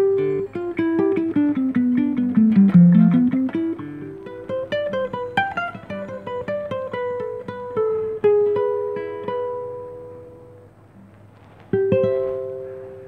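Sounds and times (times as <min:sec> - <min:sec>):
fingerstyle classical guitar: 0:00.0 - 0:13.0.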